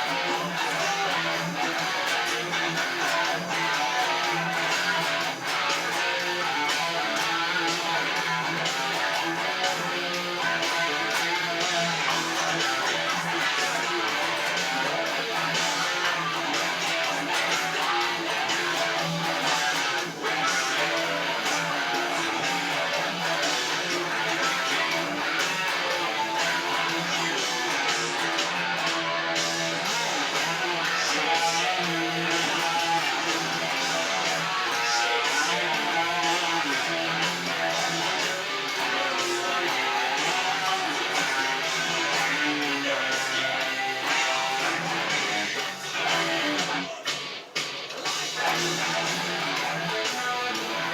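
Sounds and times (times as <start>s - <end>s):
strummed guitar chords: 0.0s - 50.9s.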